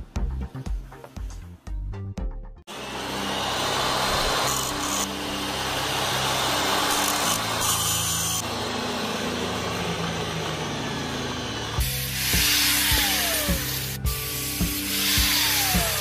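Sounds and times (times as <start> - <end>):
angle grinder cutting metal: 2.7 - 16.0.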